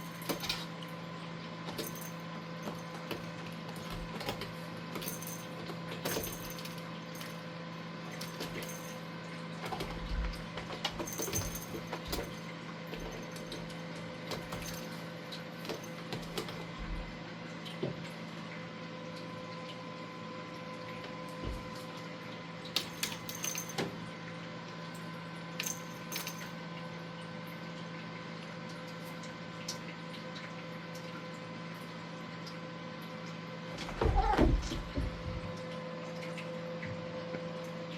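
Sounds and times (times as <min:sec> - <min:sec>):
steady background hum: 0:00.0 - 0:37.9.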